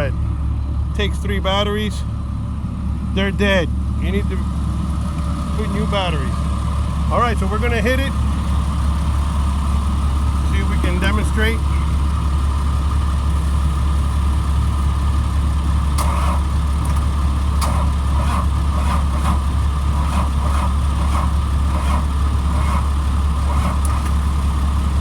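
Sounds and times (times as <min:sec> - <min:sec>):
diesel engine droning: 0:00.0 - 0:25.0
engine sputtering bursts: 0:00.9 - 0:25.0.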